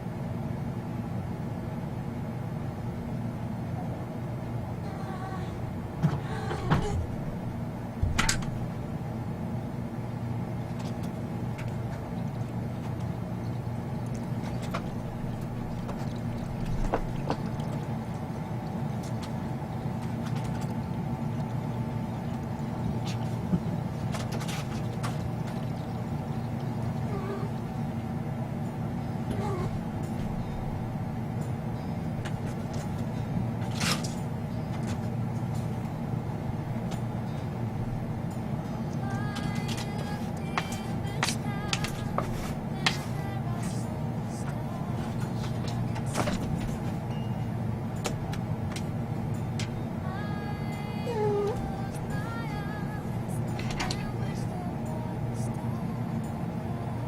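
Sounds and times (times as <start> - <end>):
low background rumble: 0.0 - 57.0
low mechanical hum: 0.0 - 57.0.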